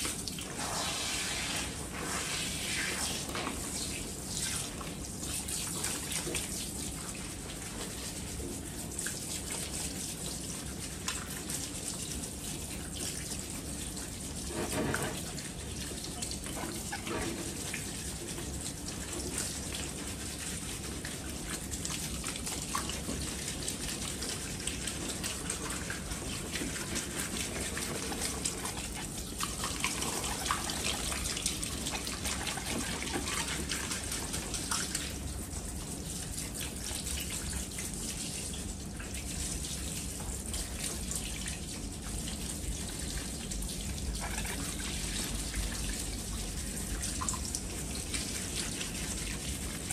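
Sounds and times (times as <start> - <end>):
shower sprayer water splashing: 0.0 - 49.9.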